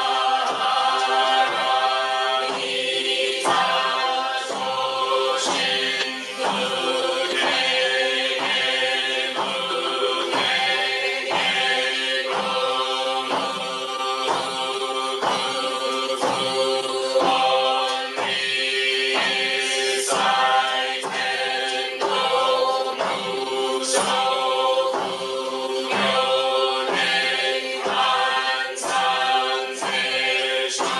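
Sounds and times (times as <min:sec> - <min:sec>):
struck beat keeping time: 0:00.0 - 0:30.9
voices chanting in unison: 0:00.0 - 0:30.9.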